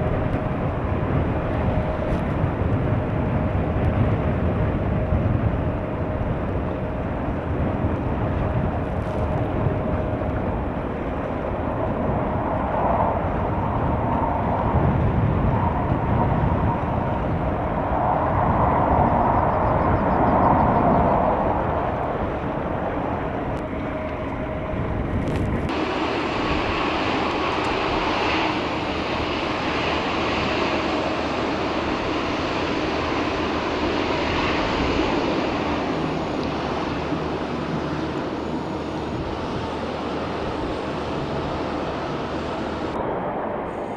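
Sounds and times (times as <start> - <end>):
jet engines rushing: 0.0 - 43.9.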